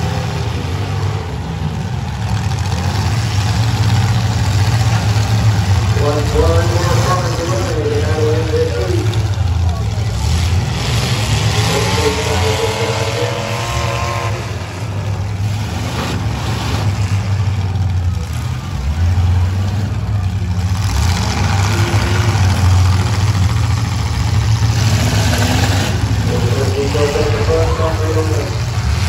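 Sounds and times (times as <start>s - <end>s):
car engines revving hard: 0.0s - 29.0s.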